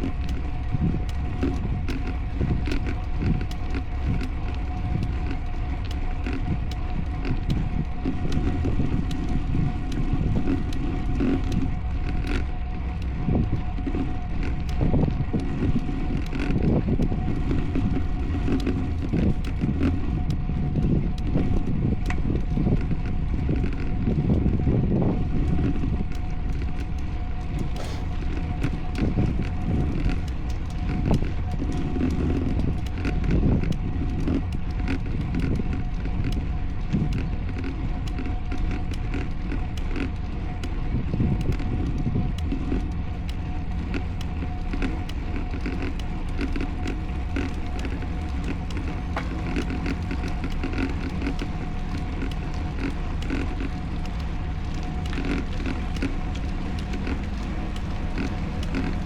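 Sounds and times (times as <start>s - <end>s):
faint steady whine: 0.0s - 59.0s
small clicks: 0.0s - 59.0s
wind and road rumble: 0.0s - 59.0s.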